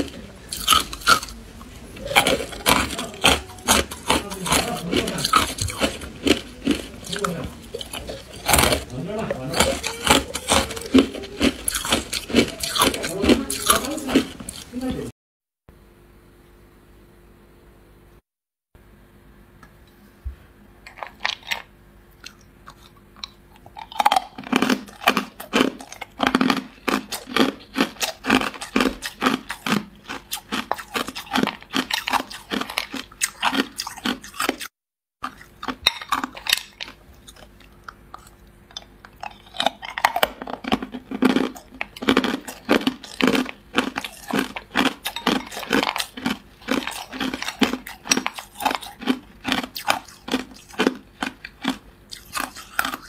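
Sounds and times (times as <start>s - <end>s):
ice cubes crunching in mouth: 0.0s - 1.4s, 2.0s - 14.8s, 20.9s - 53.0s.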